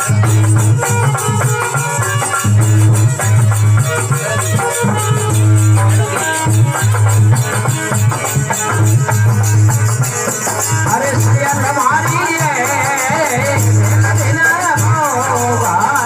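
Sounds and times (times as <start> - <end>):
rattling percussion: 0.0 - 16.0.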